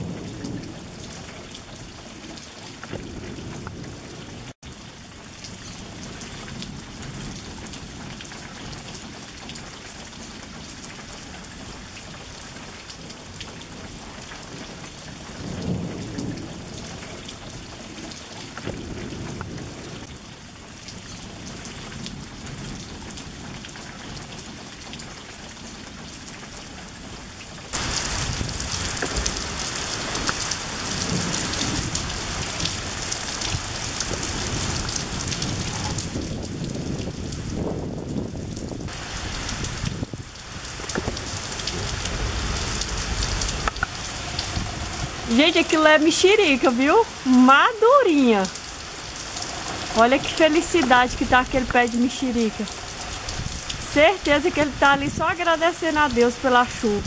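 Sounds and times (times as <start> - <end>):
heavy rain pouring off roof: 0.0 - 57.0.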